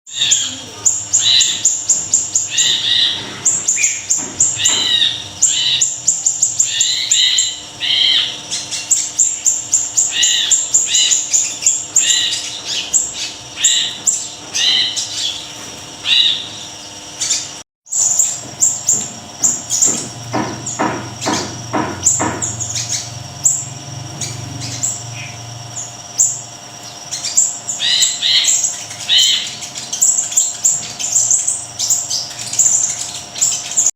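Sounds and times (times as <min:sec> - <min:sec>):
songbird chirping and trilling: 0:00.1 - 0:33.9.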